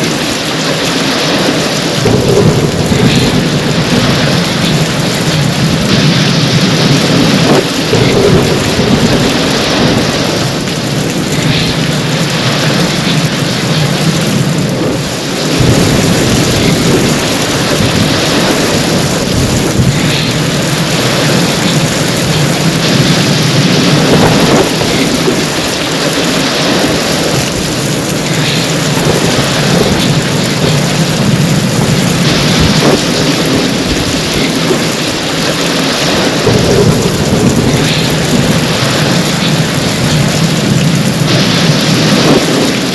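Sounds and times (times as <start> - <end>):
heavy rain falling: 0.0 - 42.9
thunder rumbling: 0.0 - 42.9.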